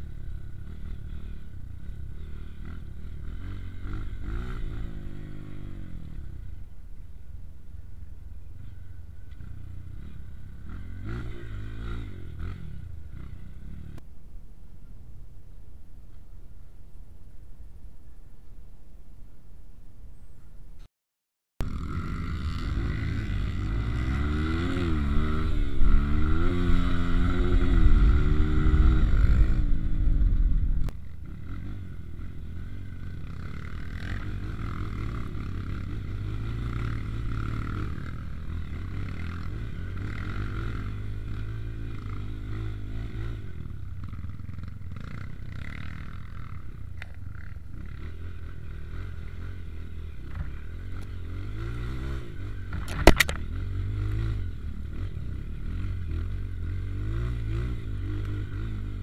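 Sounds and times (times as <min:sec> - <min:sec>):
motorcycle engine revving: 0:00.0 - 0:06.8, 0:08.5 - 0:14.0, 0:21.6 - 0:59.0.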